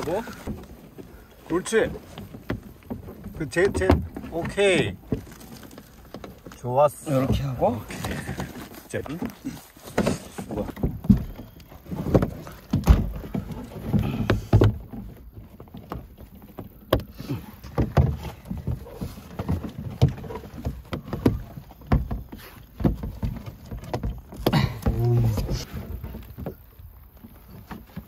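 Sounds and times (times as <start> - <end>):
plastic panels knocking and scraping: 0.0 - 28.0.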